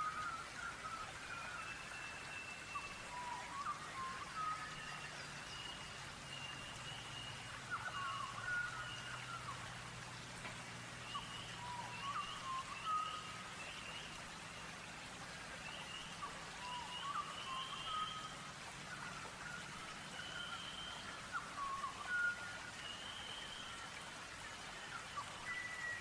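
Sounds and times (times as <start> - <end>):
songbirds chirping and whistling: 0.0 - 9.6, 11.0 - 14.1, 15.7 - 23.8, 24.8 - 26.0
soft steady hiss: 0.0 - 26.0.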